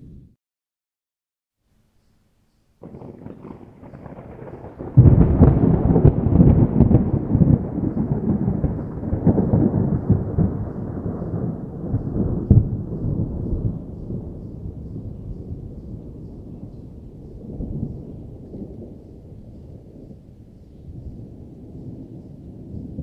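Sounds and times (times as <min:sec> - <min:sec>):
thunder rumbling and cracking: 0:02.8 - 0:23.0.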